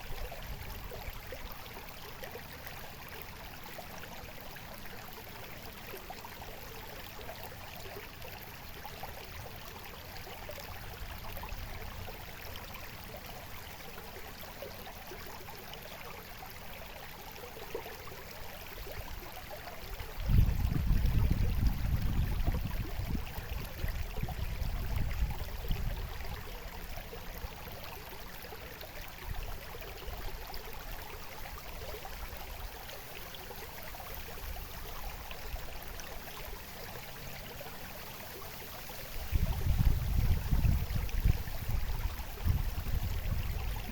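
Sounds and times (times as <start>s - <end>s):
babbling stream: 0.0s - 43.9s.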